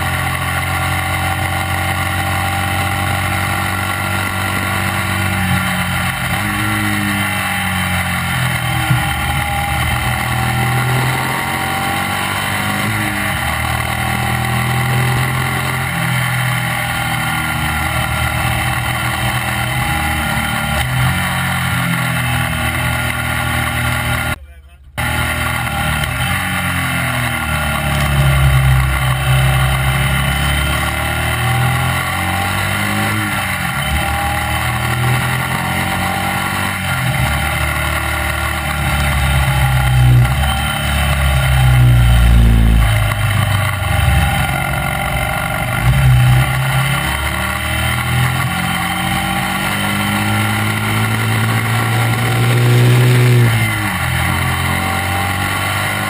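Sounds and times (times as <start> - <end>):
racing engine shifting gears: 0.0 - 24.4, 25.0 - 56.0.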